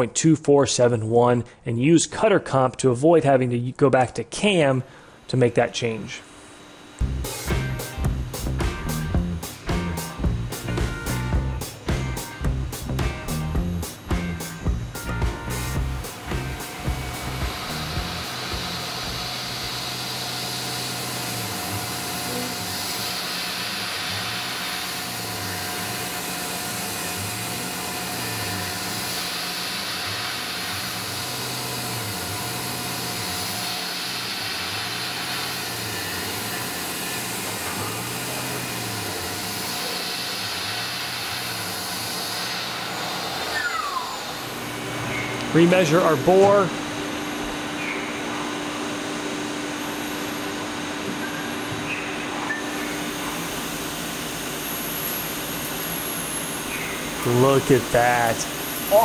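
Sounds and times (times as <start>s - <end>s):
milling machine low hum: 4.8s - 59.0s
spindle whine winding down: 5.0s - 59.0s.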